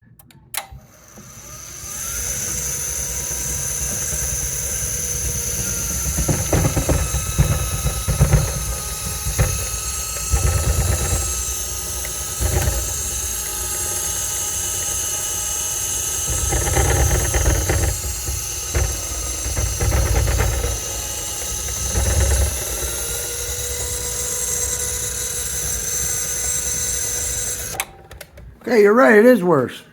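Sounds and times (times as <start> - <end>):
machine whirring: 0.2 - 28.5
gravelly grinding: 2.5 - 27.8.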